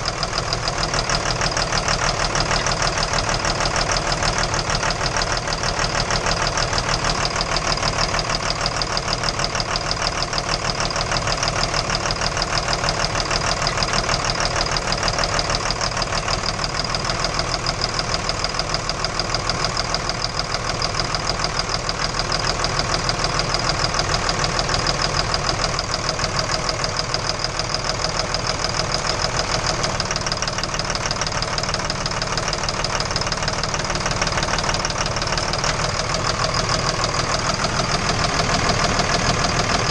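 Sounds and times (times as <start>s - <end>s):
engine idling with knock: 0.0s - 39.9s.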